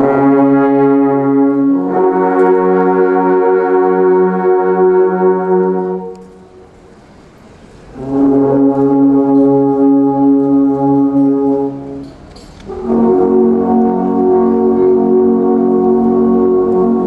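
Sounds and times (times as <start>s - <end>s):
alphorns playing held chords: 0.0s - 6.9s, 7.9s - 17.0s.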